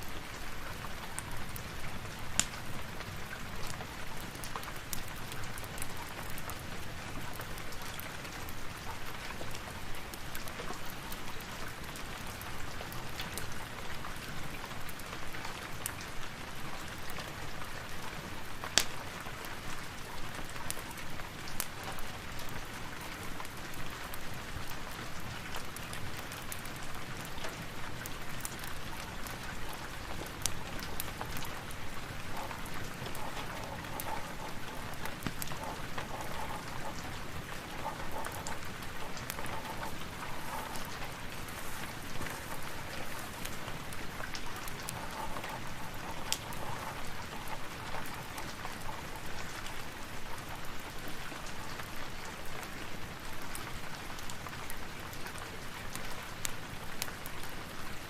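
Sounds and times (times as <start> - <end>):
fire crackling: 0.0 - 58.0
rain falling: 0.0 - 58.0.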